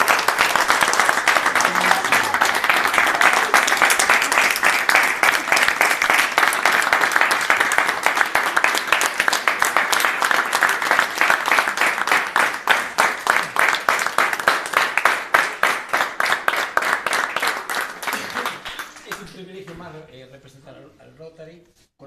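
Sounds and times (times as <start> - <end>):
people applauding: 0.0 - 19.6.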